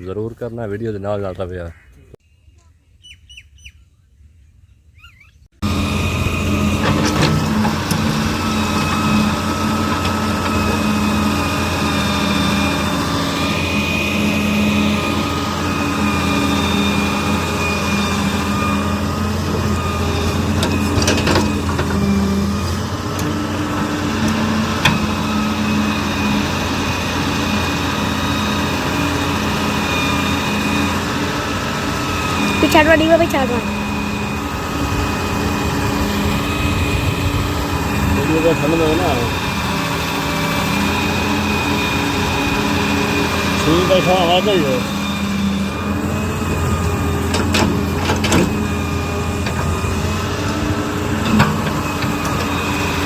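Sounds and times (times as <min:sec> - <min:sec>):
diesel engines running: 0:05.5 - 0:53.0.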